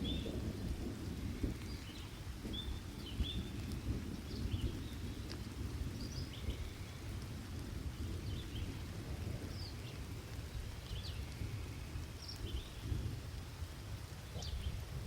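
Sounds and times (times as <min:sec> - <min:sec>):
low rumble of thunder: 0:00.0 - 0:15.0
steady rain: 0:00.0 - 0:15.0.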